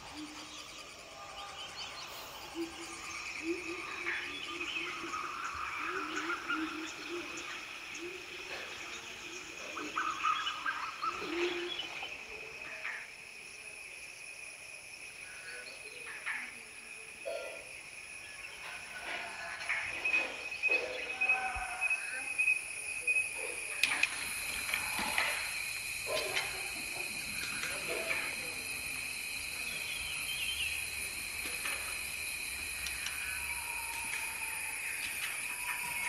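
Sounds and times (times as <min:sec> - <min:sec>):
birds calling: 0:00.0 - 0:12.2, 0:18.3 - 0:36.0
insects droning: 0:00.0 - 0:36.0.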